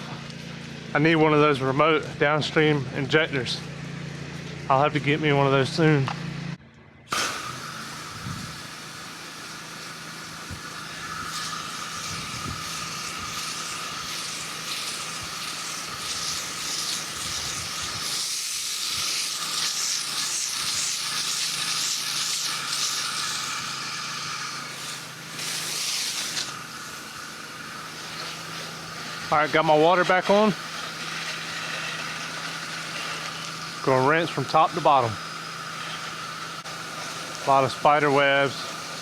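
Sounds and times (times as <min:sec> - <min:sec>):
motor humming low: 0:00.0 - 0:39.0
pressure washer spray hissing: 0:07.1 - 0:39.0.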